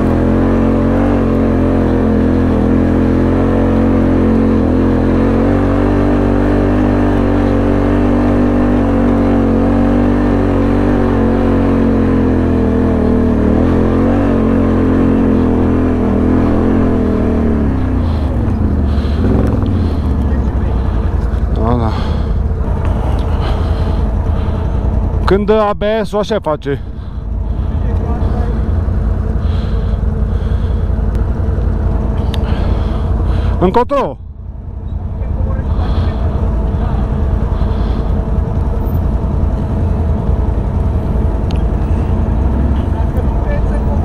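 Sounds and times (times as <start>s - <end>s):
atv engine revving: 0.0s - 26.2s, 26.8s - 44.0s.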